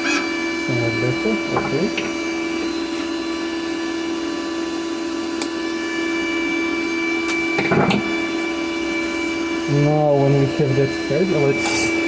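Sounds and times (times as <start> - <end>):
welder wire-feed motor humming: 0.0 - 12.0.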